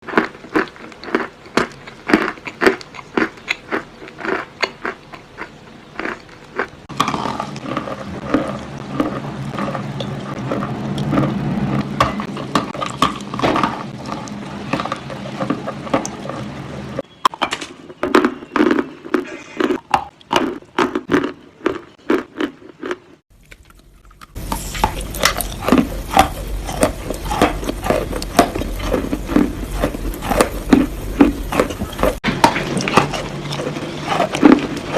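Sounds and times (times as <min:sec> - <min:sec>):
chalk being chewed crunching: 0:00.0 - 0:17.1, 0:17.9 - 0:34.9.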